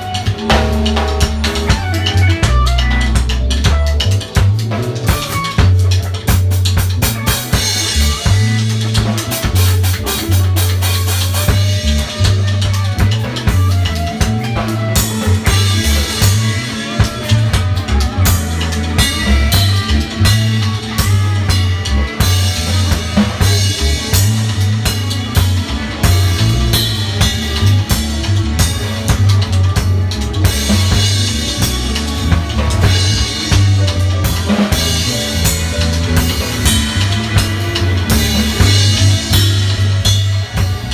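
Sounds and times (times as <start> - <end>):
drums keeping groove: 0.0 - 40.9
low bass line: 0.0 - 40.9.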